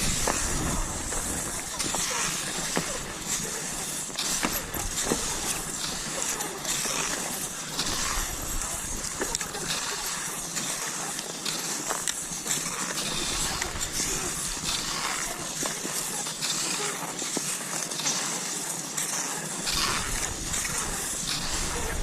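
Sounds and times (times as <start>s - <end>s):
ski poles clicking: 0.0s - 22.0s
skis swishing over snow: 0.0s - 22.0s.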